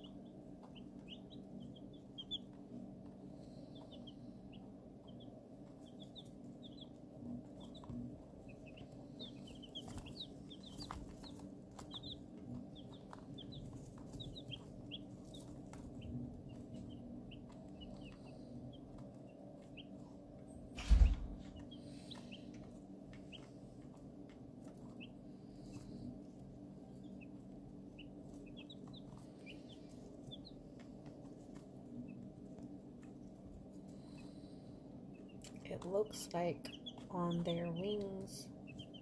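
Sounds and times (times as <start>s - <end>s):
chicks peeping: 0.0s - 39.0s
steady low hum: 0.0s - 39.0s.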